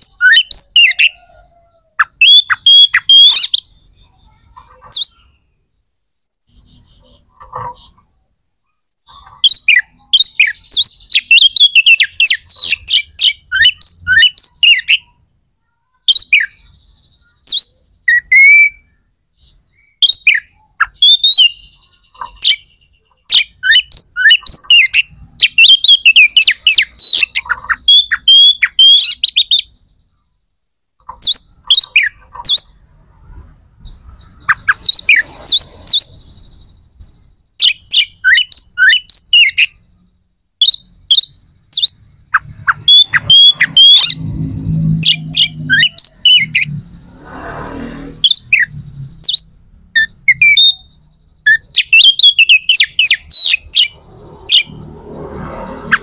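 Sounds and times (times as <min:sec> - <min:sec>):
bird chirping and twittering: 0:00.0 - 0:56.0.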